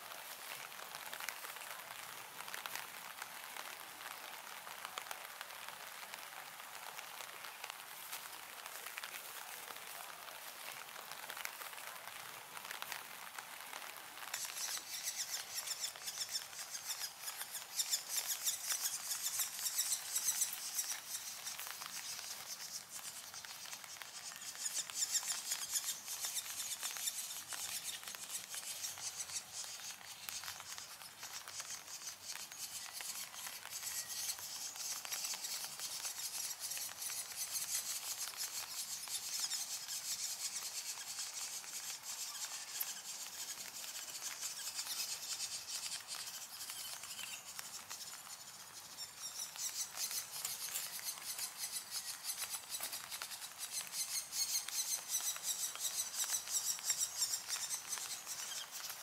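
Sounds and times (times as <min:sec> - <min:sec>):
rain dripping on leaves: 0:00.0 - 0:59.0.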